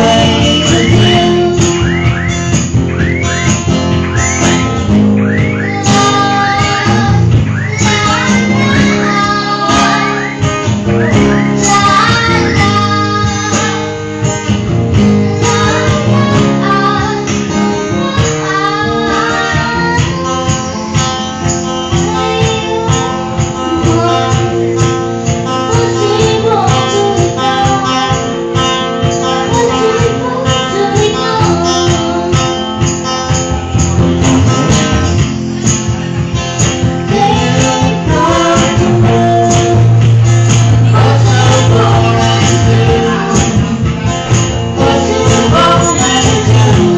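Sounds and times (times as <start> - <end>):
person singing: 0.0 - 2.0, 3.1 - 14.4, 15.0 - 32.9, 36.8 - 46.9
acoustic guitar strumming: 0.0 - 46.9.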